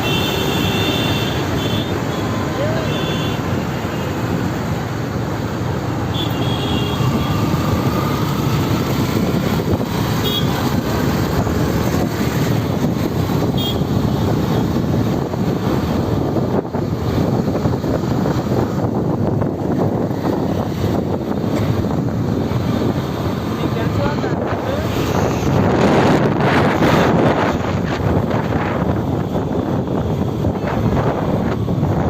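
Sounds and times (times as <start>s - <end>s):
road and traffic noise: 0.0s - 32.0s.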